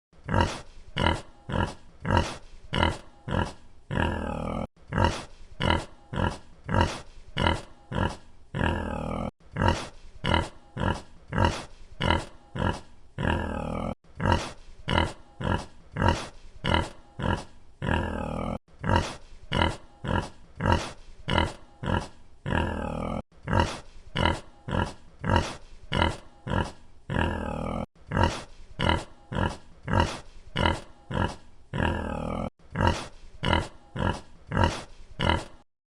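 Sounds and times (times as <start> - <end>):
pig grunting: 0.2 - 35.7.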